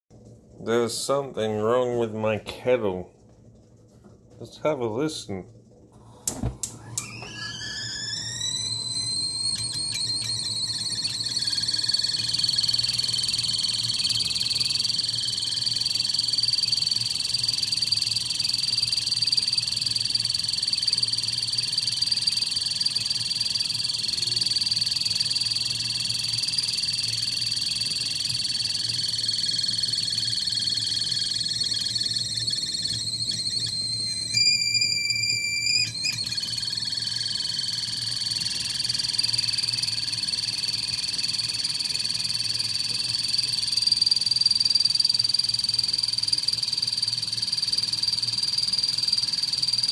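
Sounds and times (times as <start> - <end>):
kettle whistling with hiss: 6.0 - 49.9.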